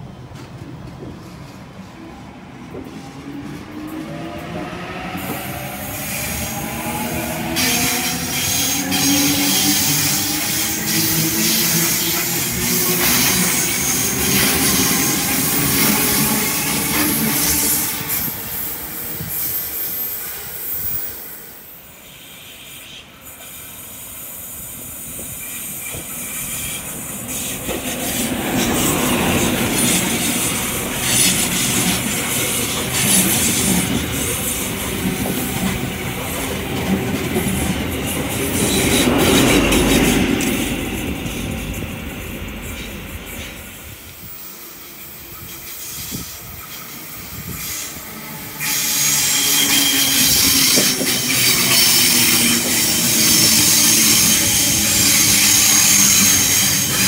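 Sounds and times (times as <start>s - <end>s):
diesel express train passing: 0.0s - 57.0s
electric train passing: 0.0s - 57.0s.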